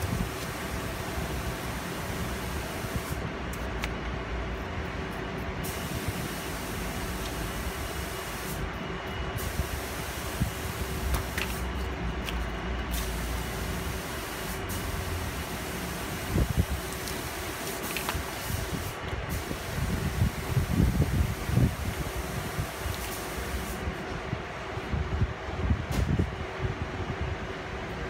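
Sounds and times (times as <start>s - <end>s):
mechanical hum and hiss: 0.0s - 28.0s.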